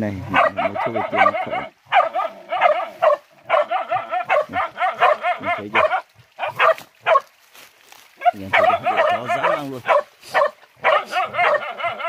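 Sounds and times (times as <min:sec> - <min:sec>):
hunting dogs barking: 0:00.1 - 0:07.3, 0:08.2 - 0:12.0.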